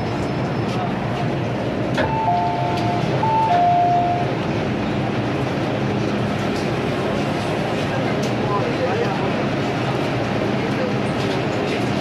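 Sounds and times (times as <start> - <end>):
train carriage running noise: 0.0 - 12.0.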